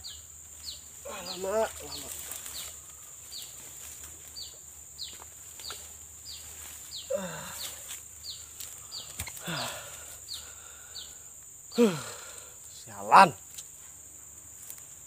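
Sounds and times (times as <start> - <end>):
high falling chirp: 0.0 - 12.1
lower falling calls: 0.0 - 12.4
high-pitched insect drone: 0.0 - 15.0.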